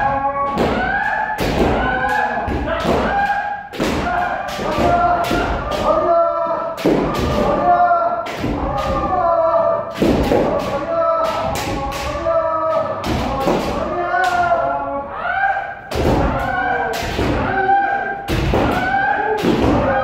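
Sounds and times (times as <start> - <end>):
people shouting: 0.0 - 20.0
bamboo swords striking: 0.5 - 6.1, 6.7 - 9.2, 9.9 - 14.6, 15.9 - 20.0.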